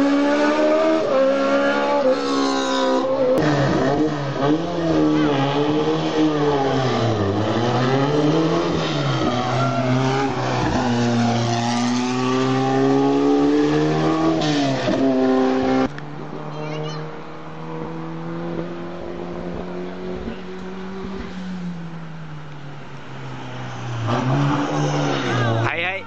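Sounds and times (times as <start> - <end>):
race car engine revving high: 0.0 - 21.9.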